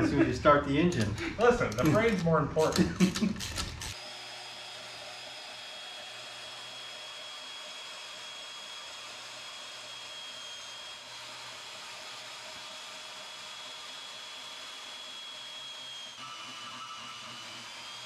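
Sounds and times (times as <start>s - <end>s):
band saw cutting steel: 1.0s - 18.0s.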